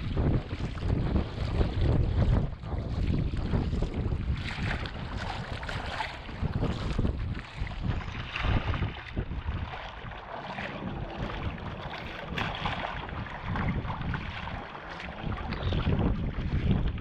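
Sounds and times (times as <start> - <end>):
paddle splashes: 0.0 - 17.0
water slapping on hull: 0.0 - 17.0
wind buffeting microphone: 0.0 - 17.0.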